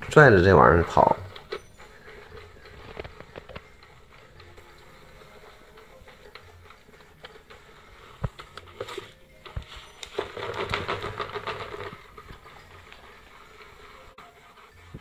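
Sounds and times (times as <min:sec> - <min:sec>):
toy mechanism whirring and rattling: 0:00.4 - 0:15.0.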